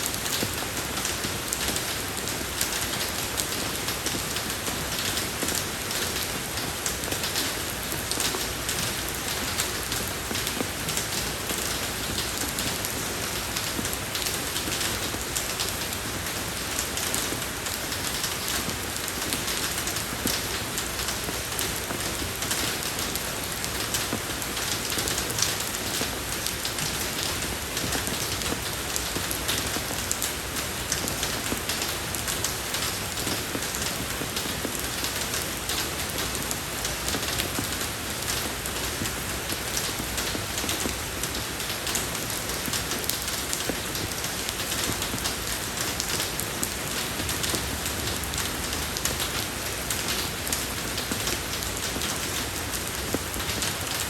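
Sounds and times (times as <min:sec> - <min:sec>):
rain falling on a road: 0:00.0 - 0:54.0.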